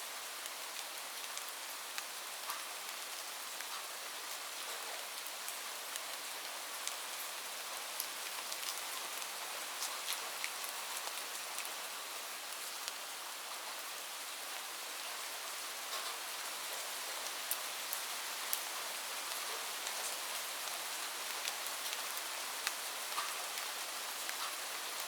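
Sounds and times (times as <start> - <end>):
light rain falling: 0.0 - 25.0.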